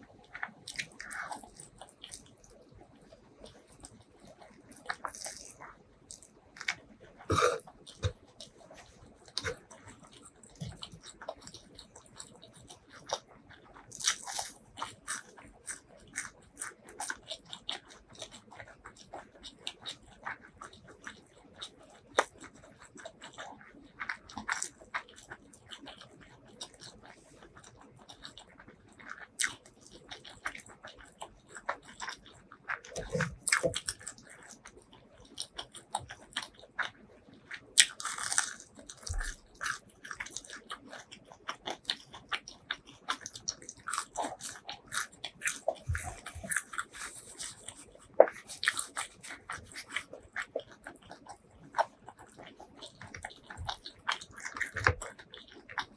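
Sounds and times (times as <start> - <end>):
crunchy chewing: 0.0 - 55.9.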